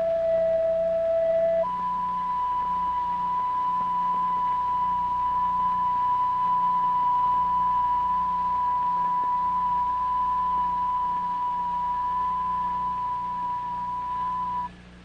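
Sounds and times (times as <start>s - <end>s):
electronic sine test tone: 0.0s - 15.0s.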